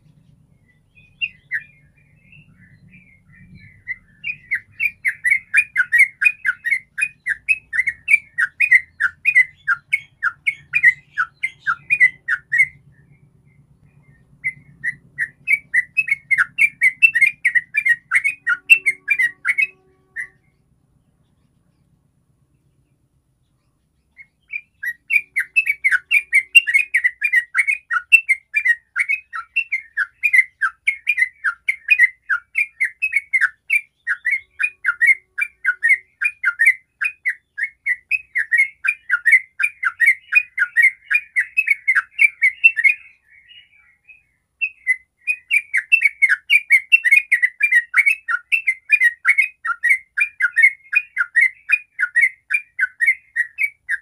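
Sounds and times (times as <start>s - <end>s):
bird singing rapid chattering song: 0.0s - 54.0s.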